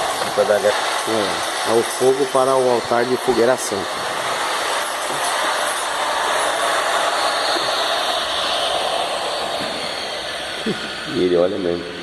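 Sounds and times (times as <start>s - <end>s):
exhaust fan rushing air: 0.0s - 12.0s.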